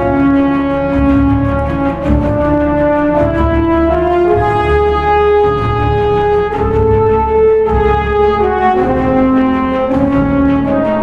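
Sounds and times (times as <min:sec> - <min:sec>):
held brass-like melody: 0:00.0 - 0:11.0
low bass: 0:00.0 - 0:11.0.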